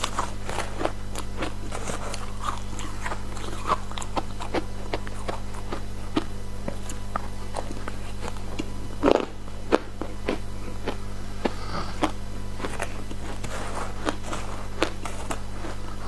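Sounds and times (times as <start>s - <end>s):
ice crunching being chewed: 0.0s - 16.0s
steady low hum: 0.0s - 16.0s.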